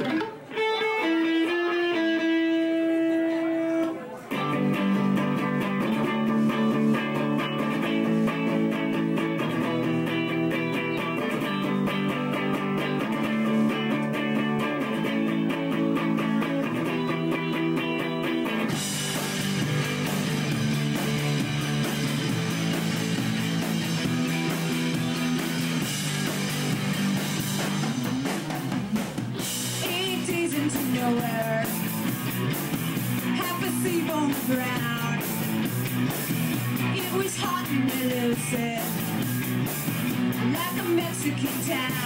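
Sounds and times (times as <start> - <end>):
electric guitars: 0.0 - 42.0
live rock band: 0.0 - 42.0
steady drum beat: 4.5 - 42.0.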